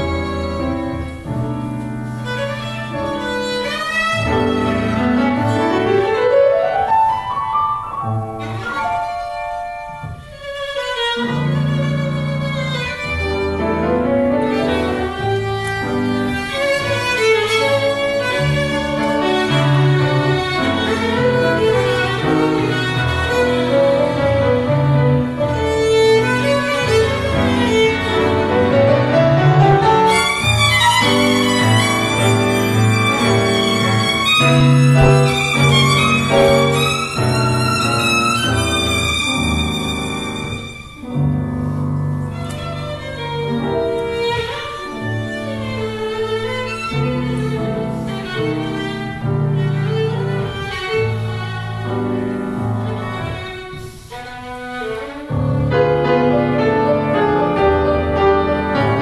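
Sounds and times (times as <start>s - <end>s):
violin and piano tango: 0.0s - 59.0s.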